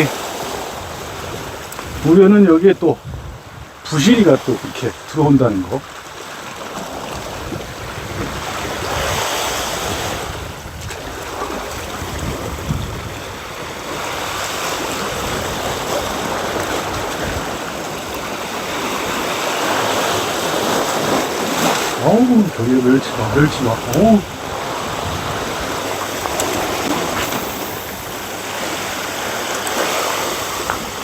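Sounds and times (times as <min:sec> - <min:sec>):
wind on microphone: 0:00.0 - 0:02.2, 0:02.9 - 0:04.8, 0:06.8 - 0:31.0
sea surf washing on shore: 0:00.0 - 0:31.0.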